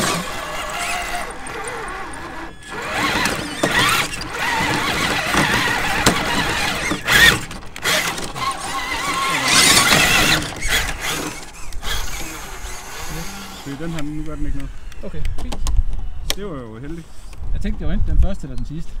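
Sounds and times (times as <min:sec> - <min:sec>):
electric motor and gears whining: 0:00.0 - 0:16.4.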